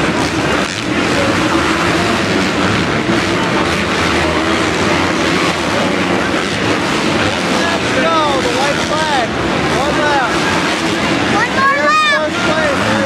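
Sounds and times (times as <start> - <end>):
motocross bikes racing: 0.0 - 13.0.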